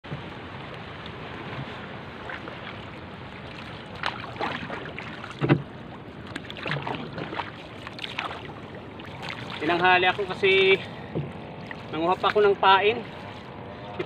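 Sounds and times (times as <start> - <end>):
water and wind hiss: 0.0 - 14.0
paddle strokes splashing: 0.1 - 14.0.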